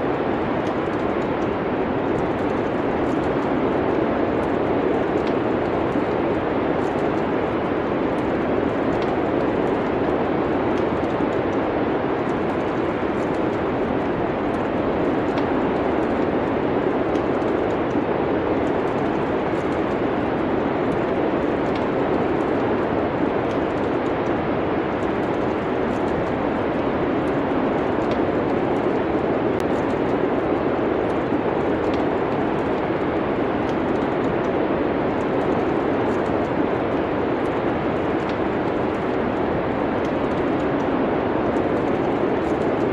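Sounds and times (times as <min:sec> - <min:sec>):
wind and snowstorm hiss: 0:00.0 - 0:42.9
log fire crackling: 0:00.1 - 0:42.9.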